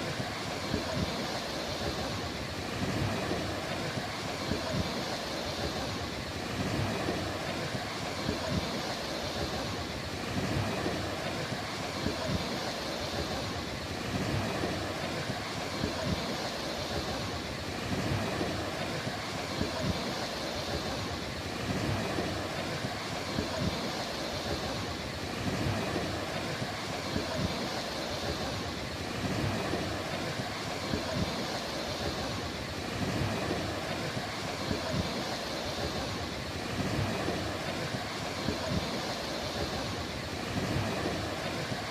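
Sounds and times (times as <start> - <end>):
ocean surf washing onto beach: 0.0 - 41.9.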